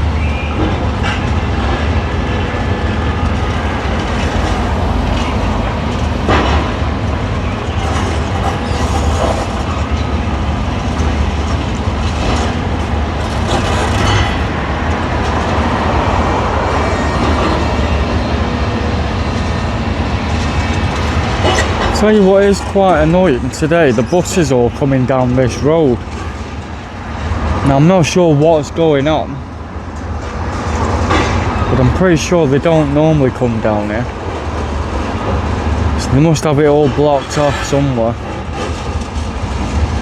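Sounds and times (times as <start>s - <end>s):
diesel machine running: 0.0s - 40.0s.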